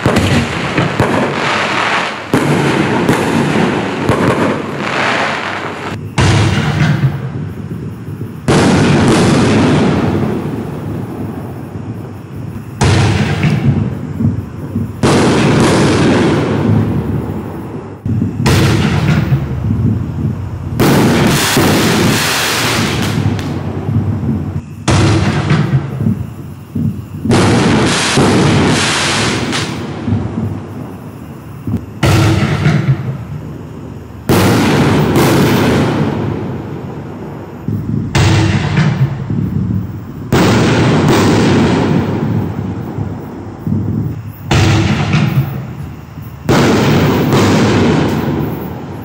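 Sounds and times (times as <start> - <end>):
firework shells booming: 0.0 - 49.0.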